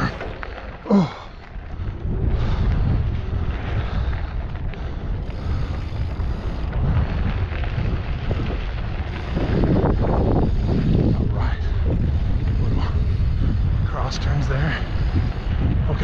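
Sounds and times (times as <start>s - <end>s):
bike tyres rolling on dirt: 0.0s - 16.0s
wind buffeting microphone: 0.0s - 16.0s.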